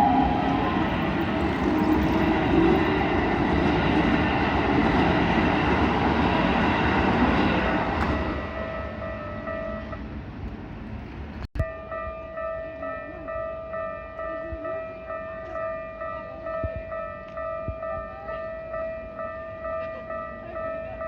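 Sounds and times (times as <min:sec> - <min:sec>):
crossing warning bell ringing: 0:00.0 - 0:10.4, 0:11.6 - 0:21.0
train passing: 0:00.0 - 0:21.0.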